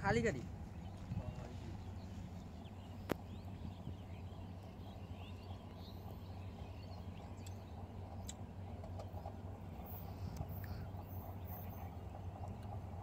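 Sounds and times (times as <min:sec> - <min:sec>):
steady low rumble: 0:00.0 - 0:13.0
faint bird chirps: 0:00.8 - 0:12.9.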